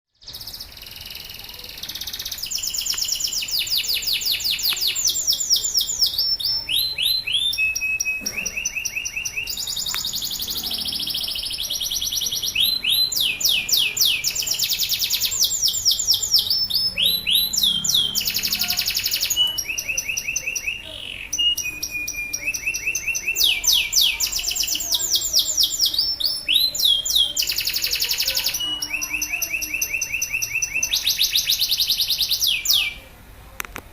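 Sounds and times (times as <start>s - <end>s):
canary singing in rapid trills: 0.1s - 33.1s.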